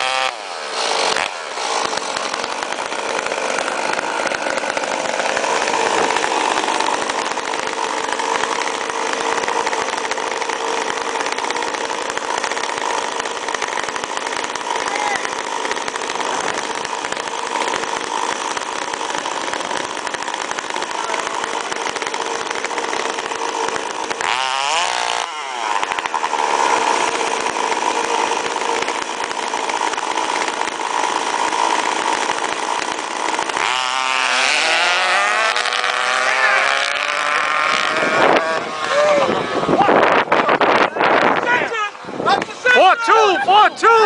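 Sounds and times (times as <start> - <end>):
small model car engines revving: 0.0 - 44.0.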